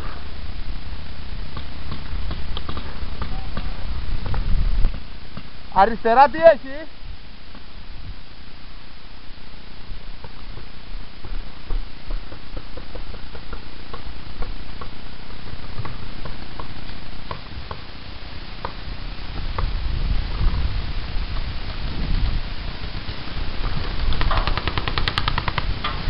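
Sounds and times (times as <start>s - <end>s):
wind rumble on microphone: 0.0s - 8.8s, 9.7s - 26.0s.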